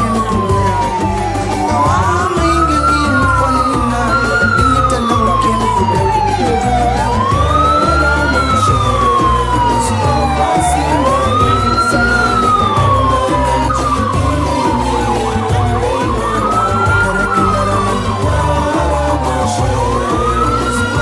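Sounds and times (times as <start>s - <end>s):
vehicle siren wailing: 0.0s - 21.0s.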